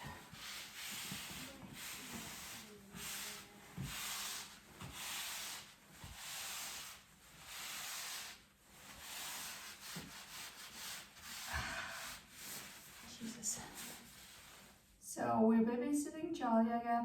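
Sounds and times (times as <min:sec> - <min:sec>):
scraping strokes on wall: 0:00.0 - 0:14.9.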